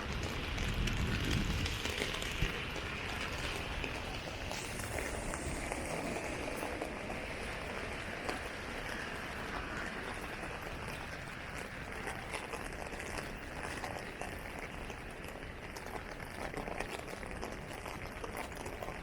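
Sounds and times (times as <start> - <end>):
rain falling on pavement: 0.0 - 19.0
water drips: 0.1 - 19.0.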